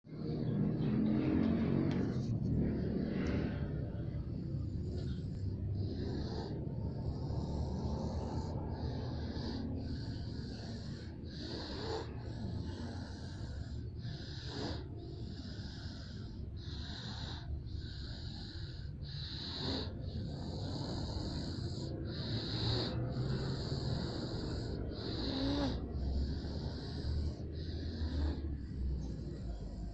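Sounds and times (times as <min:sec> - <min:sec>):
steady low hum: 0:00.0 - 0:29.9
person snoring: 0:00.2 - 0:29.9.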